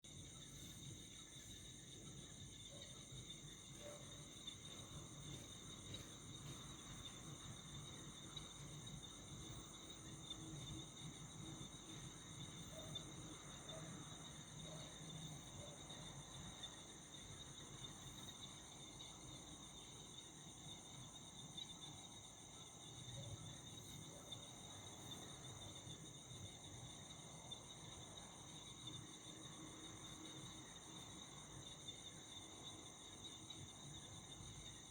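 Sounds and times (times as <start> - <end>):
night insects trilling: 0.1 - 34.9.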